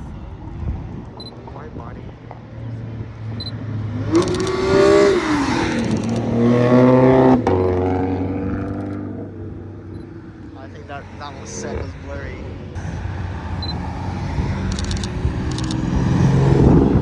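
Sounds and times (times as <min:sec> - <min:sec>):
car engine revving past: 0:02.3 - 0:17.0.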